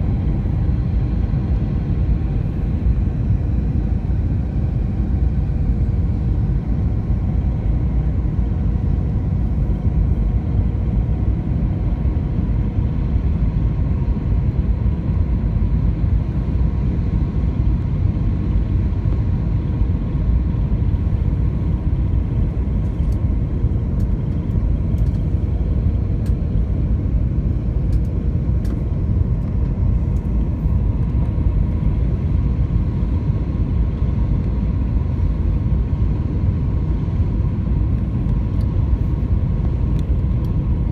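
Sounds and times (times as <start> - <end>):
aircraft cabin engine rumble: 0.0 - 40.9
faint steady hum: 0.0 - 40.9.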